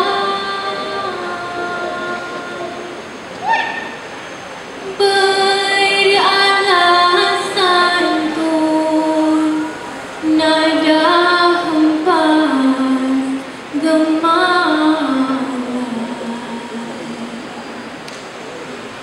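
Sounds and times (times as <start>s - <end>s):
woman singing unaccompanied: 0.0s - 3.1s, 4.9s - 17.5s.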